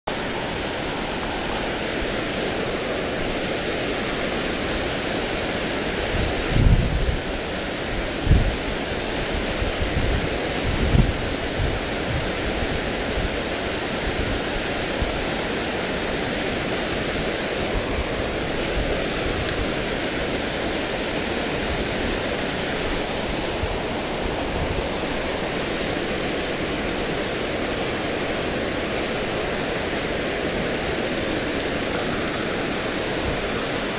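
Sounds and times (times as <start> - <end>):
water rushing over a dam: 0.1 - 33.9.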